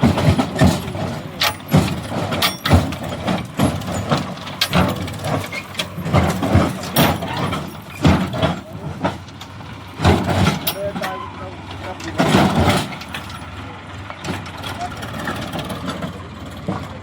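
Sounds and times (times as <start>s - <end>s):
diesel engine running: 0.0s - 17.0s
machinery clanks and thuds: 0.0s - 17.0s.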